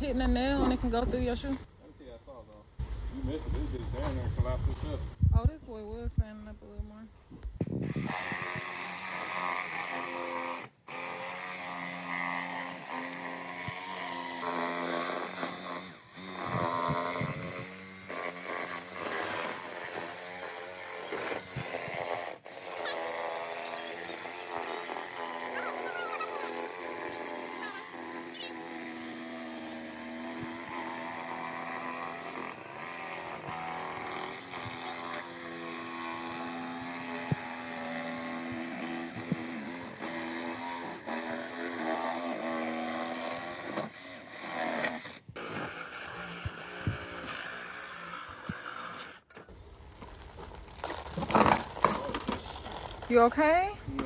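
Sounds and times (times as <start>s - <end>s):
reciprocating saw cutting: 7.6s - 54.0s.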